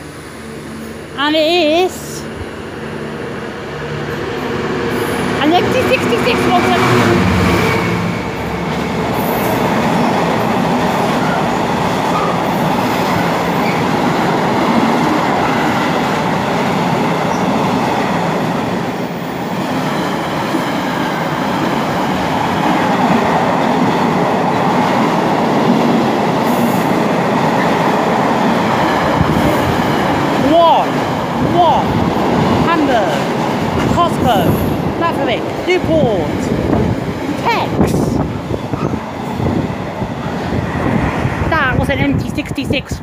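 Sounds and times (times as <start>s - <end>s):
diesel locomotive passing: 0.0s - 43.0s.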